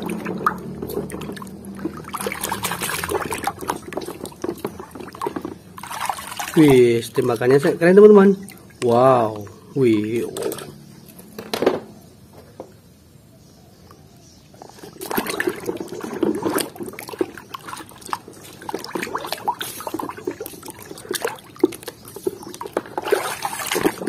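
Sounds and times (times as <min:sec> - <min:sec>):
soapy water splashing in tub: 0:00.0 - 0:10.8, 0:14.6 - 0:24.0.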